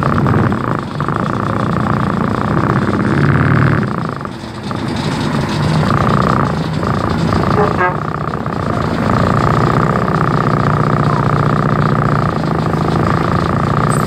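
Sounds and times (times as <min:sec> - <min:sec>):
vehicle engines idling: 0:00.0 - 0:14.0.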